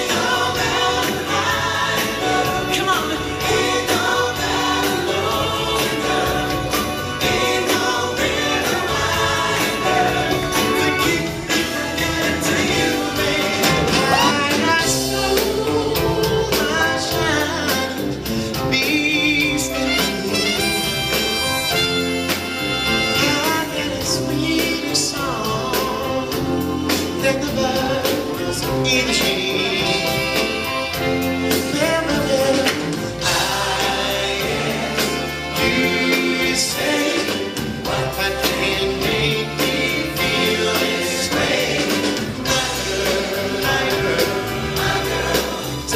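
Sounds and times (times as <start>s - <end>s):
backing band playing: 0.0s - 45.9s
vocal group singing in harmony: 0.0s - 45.9s.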